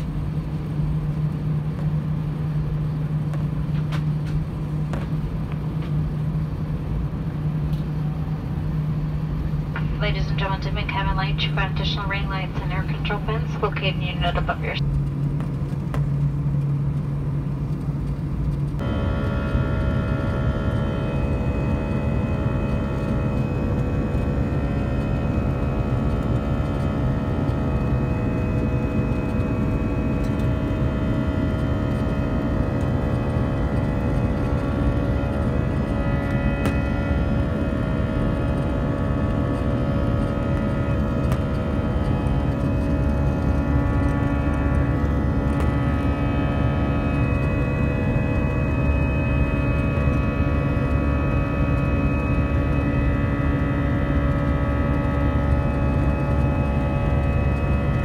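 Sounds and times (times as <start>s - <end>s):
jet engines droning in cabin: 0.0s - 58.0s.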